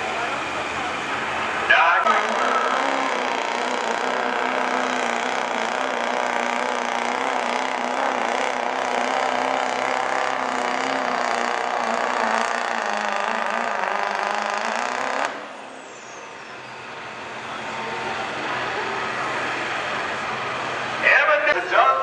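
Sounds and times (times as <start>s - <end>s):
diesel truck engine at high revs: 0.0s - 22.0s.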